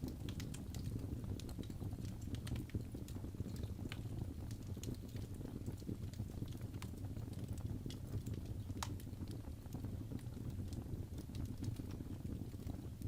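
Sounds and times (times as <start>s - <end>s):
low fire rumble: 0.0s - 13.0s
wood fire crackling: 0.0s - 13.0s.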